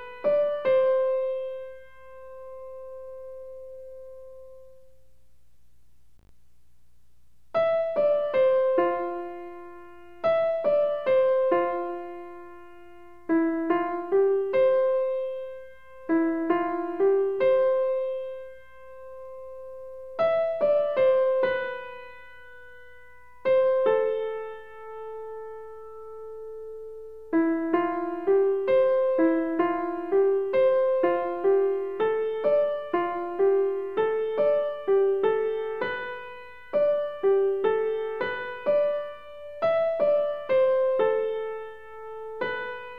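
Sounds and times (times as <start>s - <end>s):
gentle keyboard melody: 0.0s - 5.0s, 7.6s - 42.9s.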